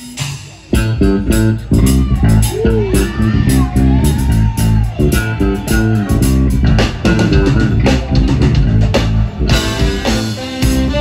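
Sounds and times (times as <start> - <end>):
electric bass guitar: 0.0 - 11.0
live band playing: 0.0 - 11.0
steady drum beat: 0.0 - 11.0.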